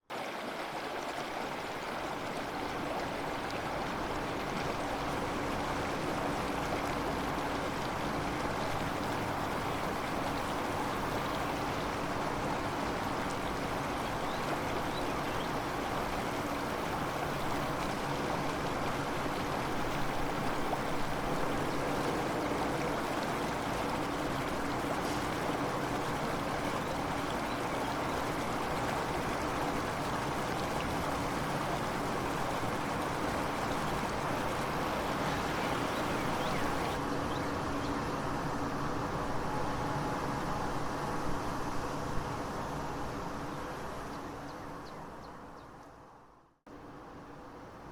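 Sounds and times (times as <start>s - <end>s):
running water: 0.1s - 44.7s.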